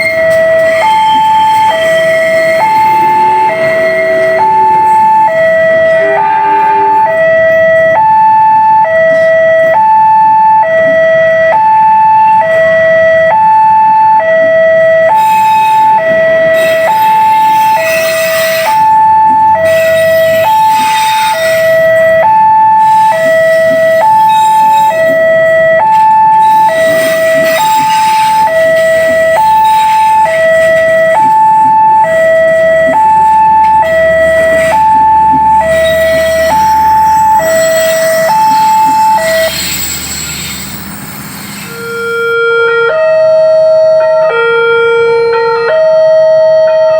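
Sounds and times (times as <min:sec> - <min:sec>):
level crossing alarm two-tone: 0:00.0 - 0:39.9, 0:41.7 - 0:46.9.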